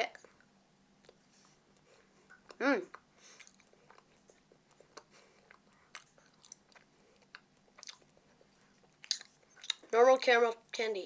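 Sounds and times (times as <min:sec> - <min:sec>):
faint chewing mouth clicks: 0:00.2 - 0:09.9.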